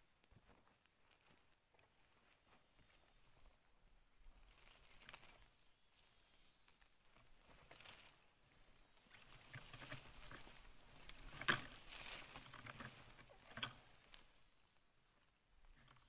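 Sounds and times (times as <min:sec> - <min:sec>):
leaves and twigs rustling: 0:00.0 - 0:16.0.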